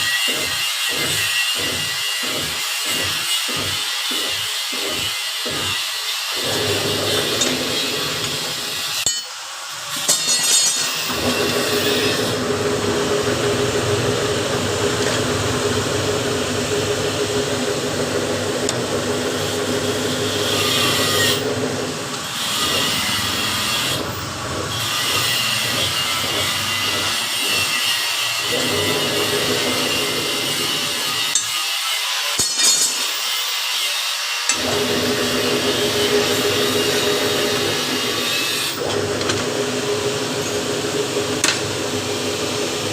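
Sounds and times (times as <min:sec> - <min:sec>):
power tool grinding: 0:00.0 - 0:42.9.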